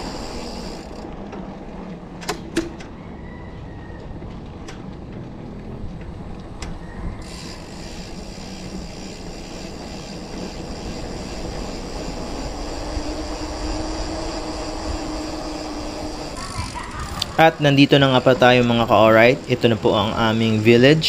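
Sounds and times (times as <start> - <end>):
road noise rumble: 0.0 - 21.0
vehicle engine drone: 0.0 - 21.0.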